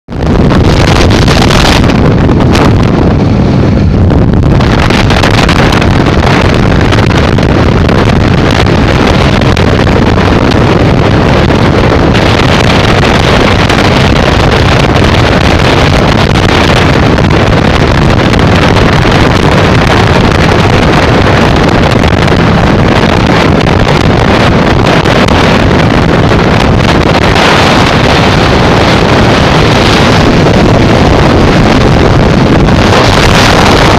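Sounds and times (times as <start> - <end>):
wind noise on microphone: 0.0 - 33.9.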